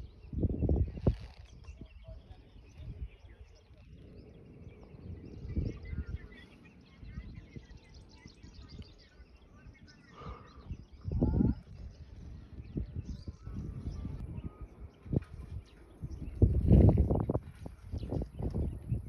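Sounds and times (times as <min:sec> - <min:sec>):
small birds chirping: 0:00.0 - 0:19.0
wind rumble on microphone: 0:00.0 - 0:19.0.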